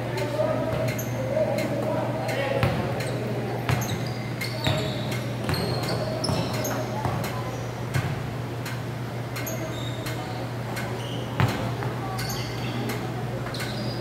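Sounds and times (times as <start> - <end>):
sneaker squeaks: 0.2 - 1.4, 2.5 - 8.2, 9.3 - 14.0.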